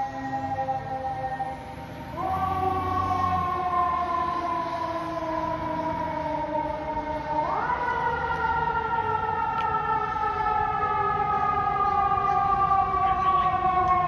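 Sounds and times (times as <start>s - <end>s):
emergency siren wailing: 0.0s - 14.0s
traffic rumble: 0.0s - 14.0s.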